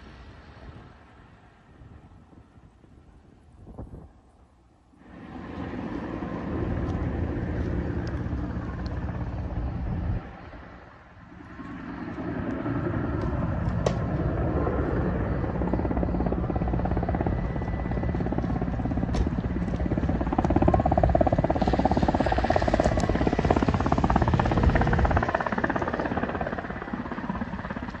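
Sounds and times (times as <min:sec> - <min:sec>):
helicopter rotor chop: 0:05.0 - 0:28.0.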